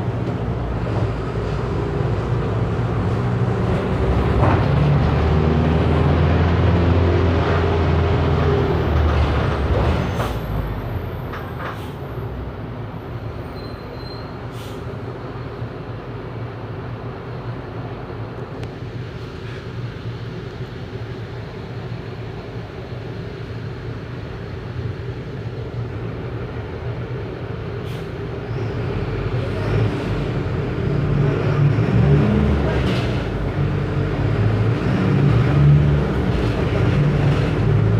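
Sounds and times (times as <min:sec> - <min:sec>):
bus diesel engine running: 0:00.0 - 0:37.9.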